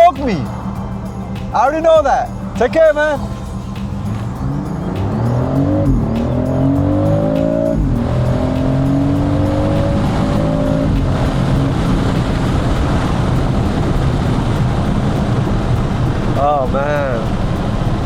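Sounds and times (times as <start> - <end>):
car engine accelerating hard: 0.0 - 18.0
road and tyre noise: 0.0 - 18.0.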